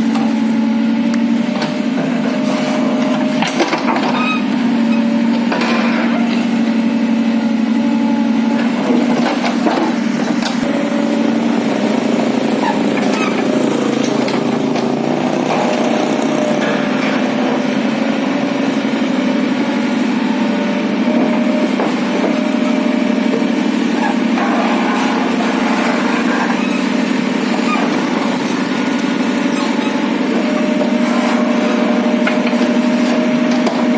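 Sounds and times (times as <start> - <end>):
small engine running: 6.1 - 33.9.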